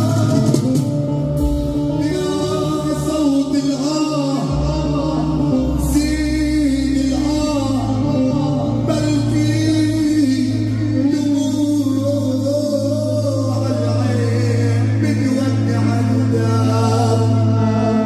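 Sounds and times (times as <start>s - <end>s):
instrumental backing: 0.0s - 18.0s
man singing into a microphone: 0.0s - 18.0s.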